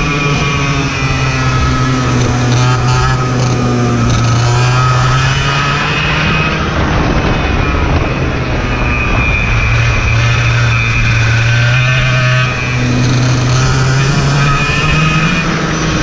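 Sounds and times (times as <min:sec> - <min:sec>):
racing kart engine running hard: 0:00.0 - 0:16.0
wind and road noise: 0:00.0 - 0:16.0.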